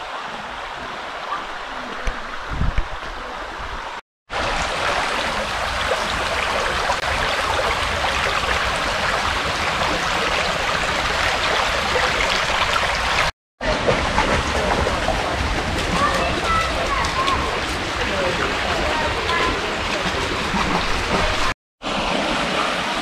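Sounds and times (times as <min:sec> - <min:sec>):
stream flowing over stones: 0:00.0 - 0:23.0.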